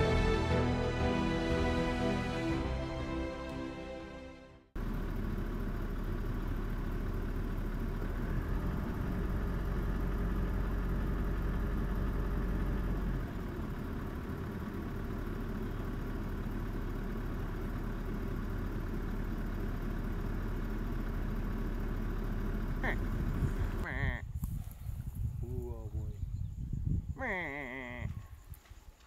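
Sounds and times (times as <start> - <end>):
vehicle engine idling: 0.0 - 26.8.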